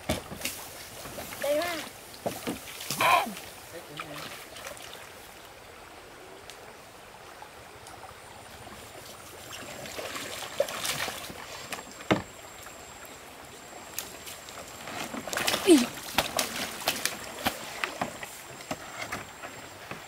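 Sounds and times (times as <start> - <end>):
water sloshing and splashing: 0.0 - 5.8, 7.6 - 20.0
stream water flowing: 0.0 - 20.0.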